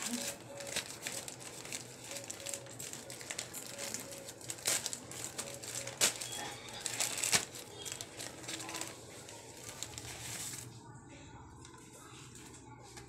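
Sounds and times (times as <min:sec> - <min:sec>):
plastic packet crinkling: 0:00.0 - 0:10.7.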